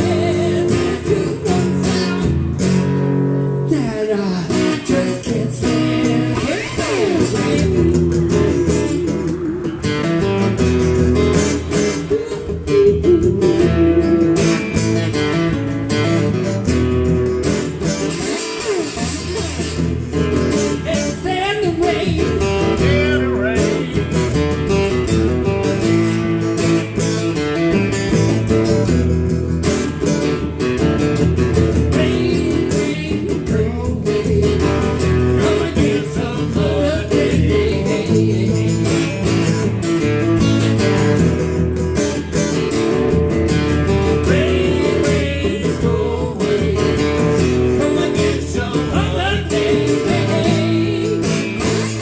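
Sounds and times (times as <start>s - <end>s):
acoustic guitars strumming: 0.0s - 52.0s.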